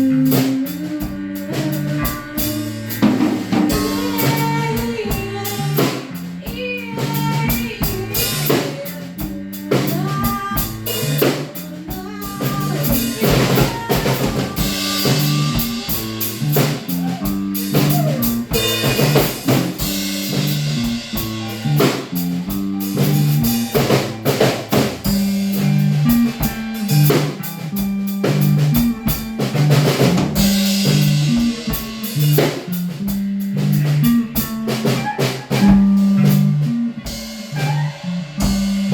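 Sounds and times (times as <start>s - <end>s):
drum kit playing steady beat: 0.0s - 38.9s
low bass line: 0.0s - 38.9s.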